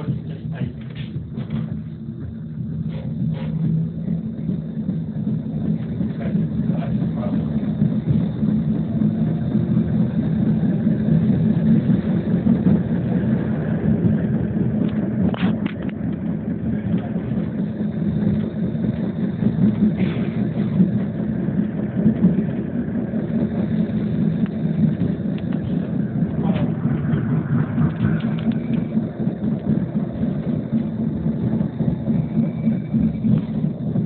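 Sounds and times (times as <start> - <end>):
tram wheels rumbling on rails: 0.0 - 34.0.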